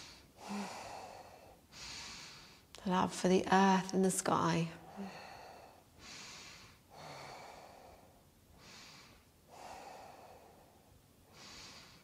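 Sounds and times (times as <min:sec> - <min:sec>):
woman breathing deeply: 0:00.0 - 0:02.8, 0:04.8 - 0:12.0.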